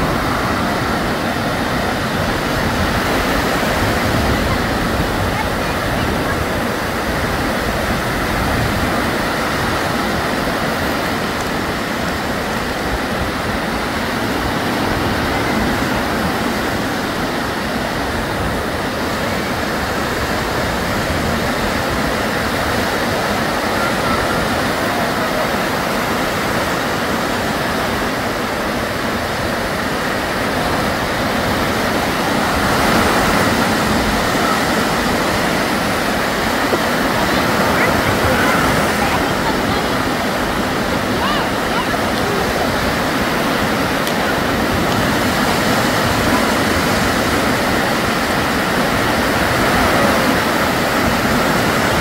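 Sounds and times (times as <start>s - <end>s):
small waves breaking on shore: 0.0s - 52.0s.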